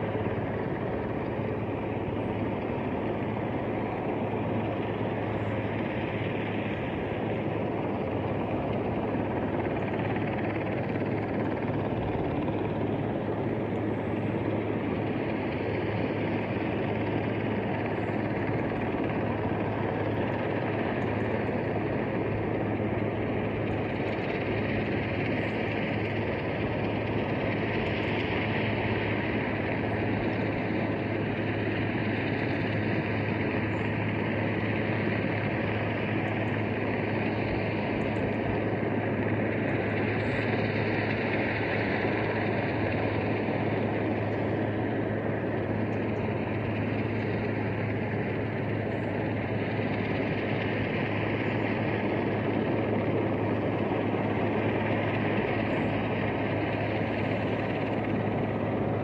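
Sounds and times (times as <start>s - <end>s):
distant helicopter hovering: 0.0s - 59.0s.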